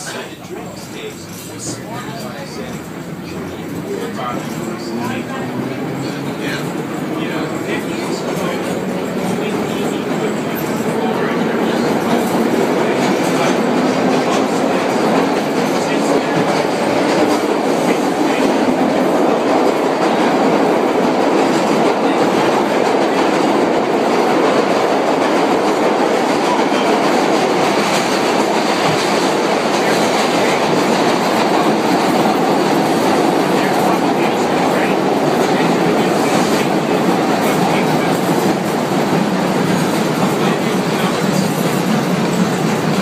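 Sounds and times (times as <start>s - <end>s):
steel wheels running on rails: 0.1s - 43.0s.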